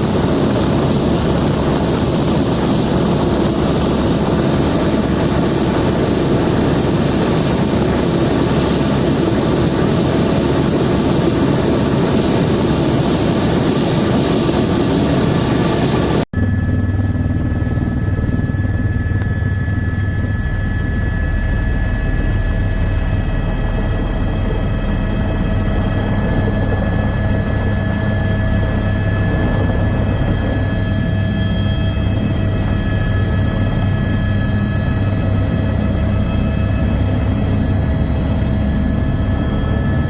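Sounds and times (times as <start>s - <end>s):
helicopter rotor and engine drone: 0.0s - 40.0s
turbine whine: 0.0s - 40.0s.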